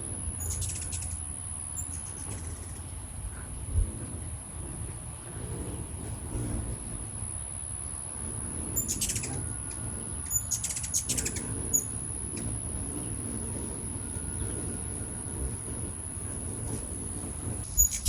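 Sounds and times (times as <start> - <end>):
hummingbird chip calls: 0.0 - 18.0
steady low hum: 0.0 - 18.0.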